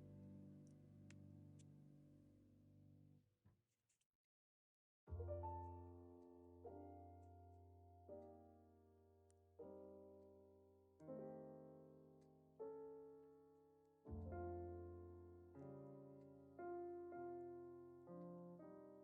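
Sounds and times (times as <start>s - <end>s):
slow piano chords: 0.0s - 2.4s, 5.1s - 19.0s.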